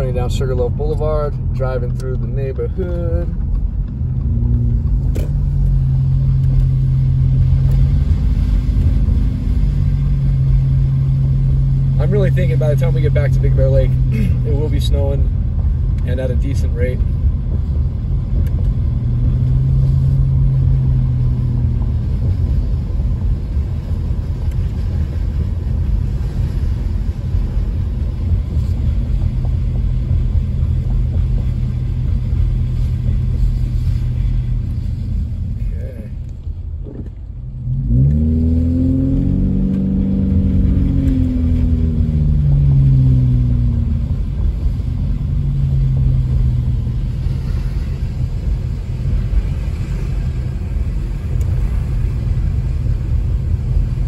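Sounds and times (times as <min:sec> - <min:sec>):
car engine accelerating: 0:00.0 - 0:54.0
road noise inside car: 0:00.0 - 0:54.0.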